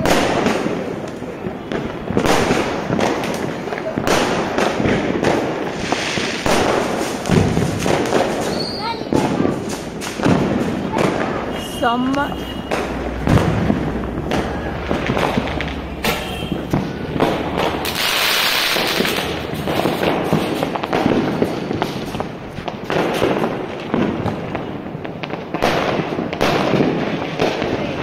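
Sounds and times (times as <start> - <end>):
fireworks bangs and crackling pops: 0.0 - 28.0.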